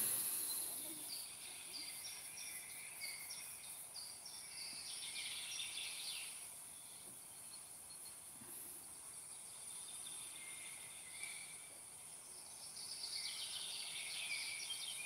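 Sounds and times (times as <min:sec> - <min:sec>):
small bird chirping: 0:00.0 - 0:08.2, 0:08.9 - 0:15.0
steady high hiss: 0:00.0 - 0:15.0.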